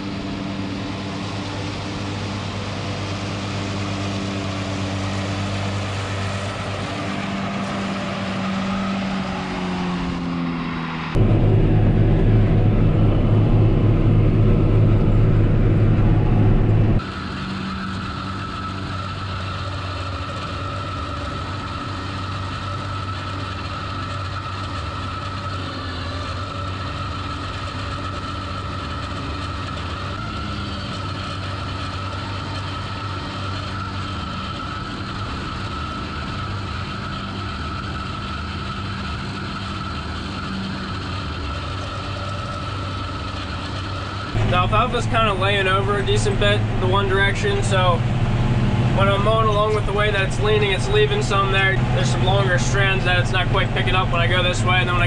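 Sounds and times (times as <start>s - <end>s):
mower running: 0.0s - 55.0s
tractor diesel engine under load: 0.0s - 55.0s.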